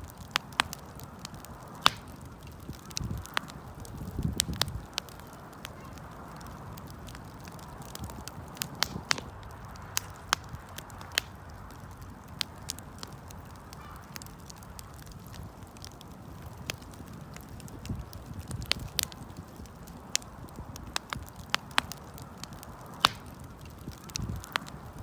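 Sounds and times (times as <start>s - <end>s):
bonfire pops and snaps: 0.0s - 25.0s
low fire rumble: 0.0s - 25.0s.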